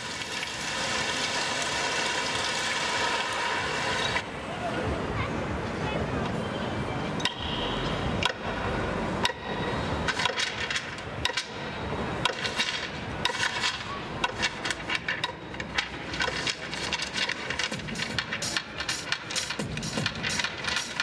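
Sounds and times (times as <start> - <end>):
city noise: 0.0 - 21.0.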